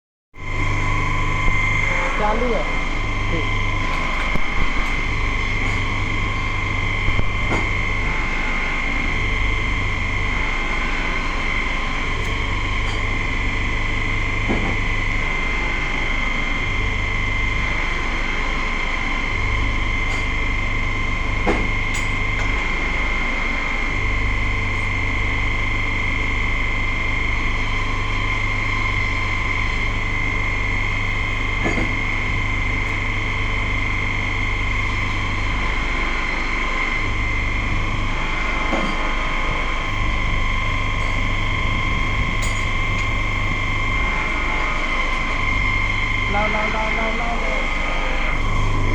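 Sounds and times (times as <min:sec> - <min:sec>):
steady high whine: 0:00.4 - 0:48.9
welding arc buzzing: 0:00.4 - 0:48.9.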